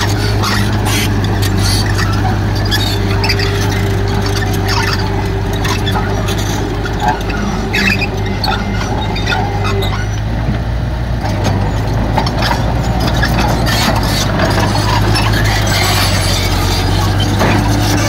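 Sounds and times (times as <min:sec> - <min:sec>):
heavy diesel engine under load: 0:00.0 - 0:18.0
metallic clanks and squeaks: 0:00.0 - 0:18.0.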